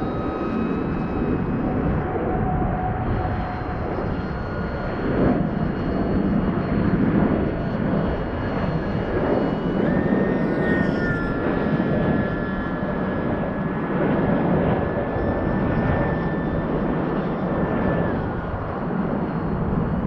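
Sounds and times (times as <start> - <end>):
model plane motor whine: 0.0 - 20.0
wind buffeting microphone: 0.0 - 20.0.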